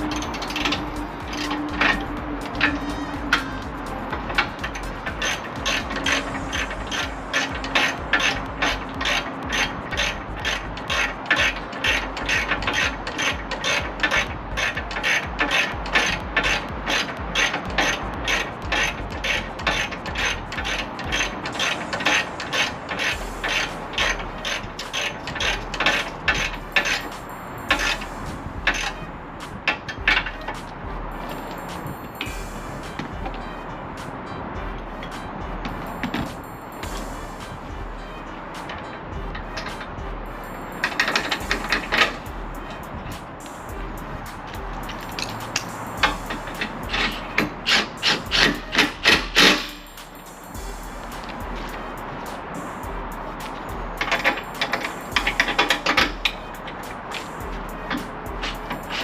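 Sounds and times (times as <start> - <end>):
ratchet wrench clicking: 0.0 - 30.6, 40.7 - 59.0.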